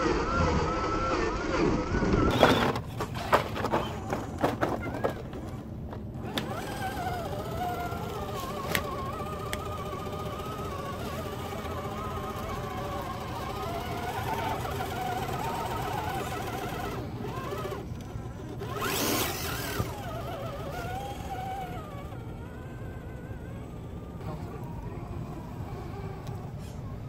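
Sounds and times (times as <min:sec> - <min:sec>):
small electric motor whining: 0:00.0 - 0:03.2, 0:04.7 - 0:27.0.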